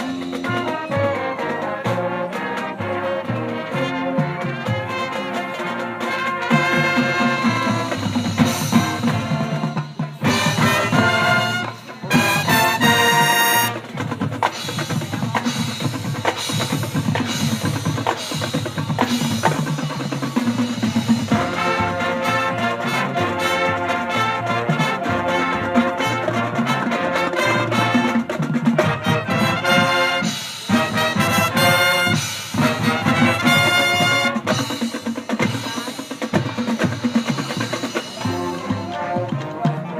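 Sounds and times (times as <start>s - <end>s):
drumline: 0.0s - 39.9s
marching band brass: 0.0s - 39.9s.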